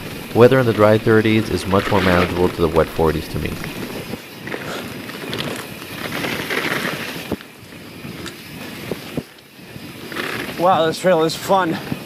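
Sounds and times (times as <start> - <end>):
wind on microphone: 0.0 - 10.1
bike tyres rolling on dirt: 0.0 - 12.0.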